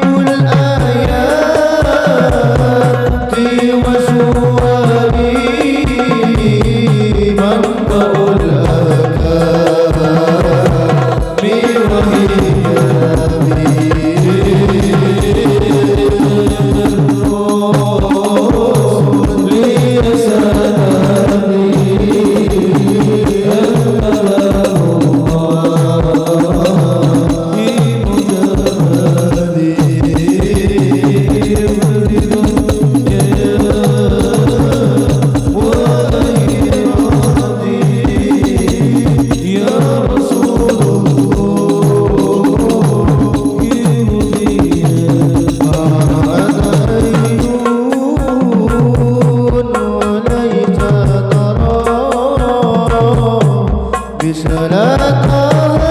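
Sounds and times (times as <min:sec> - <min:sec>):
drums beating fast rhythm: 0:00.0 - 0:55.9.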